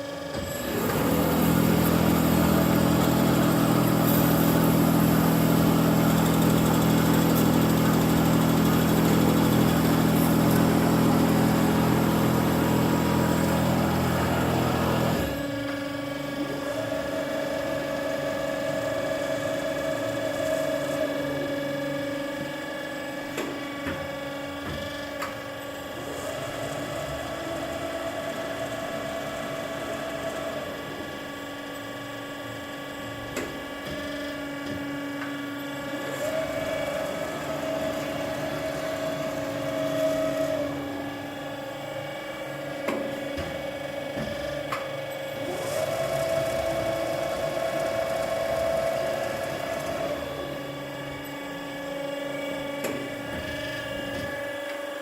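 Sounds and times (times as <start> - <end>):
metal band saw hum and whine: 0.0 - 55.0.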